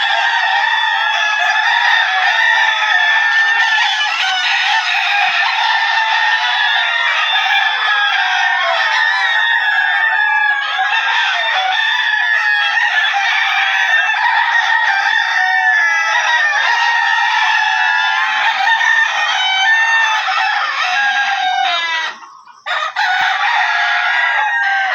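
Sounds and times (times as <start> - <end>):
chickens clucking: 0.0 - 24.9
roosters crowing: 0.0 - 24.9.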